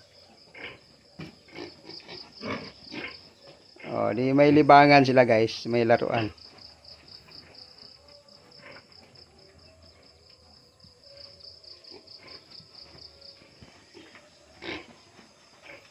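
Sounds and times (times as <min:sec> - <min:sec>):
faint insect trill: 0:00.0 - 0:15.9.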